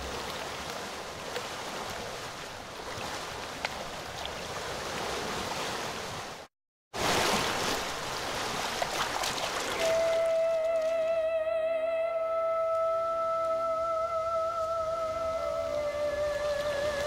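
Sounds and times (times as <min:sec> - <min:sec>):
floodwater rushing: 0:00.0 - 0:11.4, 0:12.4 - 0:17.0.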